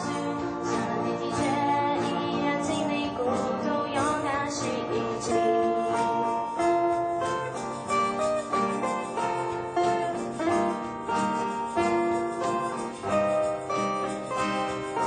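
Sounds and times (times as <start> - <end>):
acoustic guitars playing melody: 0.0 - 15.0
cajon beat: 0.0 - 15.0.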